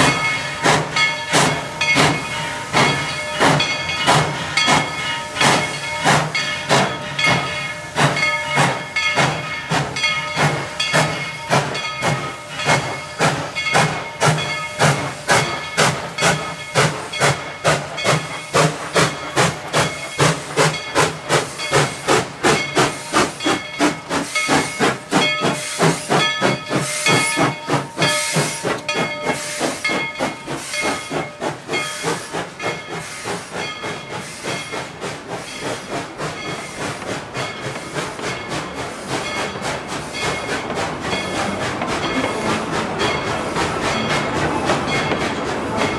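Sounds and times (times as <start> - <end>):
steam locomotive exhaust chuffs: 0.0 - 45.9.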